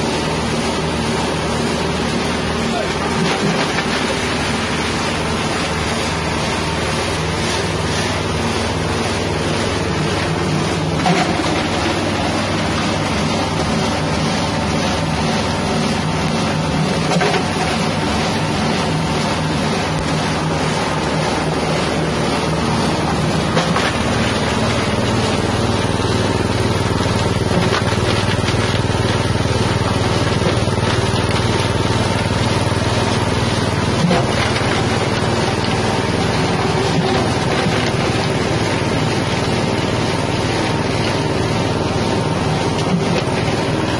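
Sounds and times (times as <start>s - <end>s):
machine grinding material: 0.0s - 43.9s
petrol engine drone: 0.0s - 43.9s.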